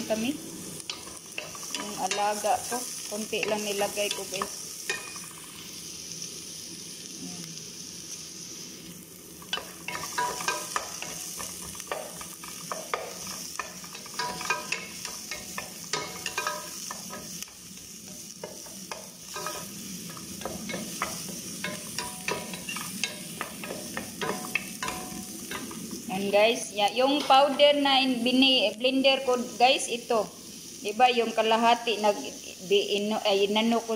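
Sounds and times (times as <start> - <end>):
onions sizzling in oil: 0.0 - 33.9.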